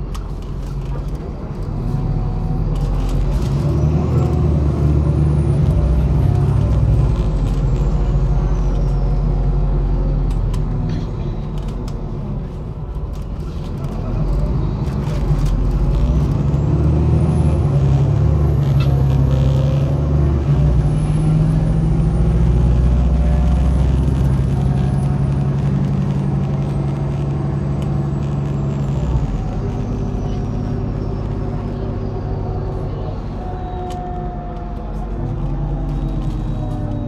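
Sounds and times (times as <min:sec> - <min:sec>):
bus diesel engine: 0:00.0 - 0:37.0.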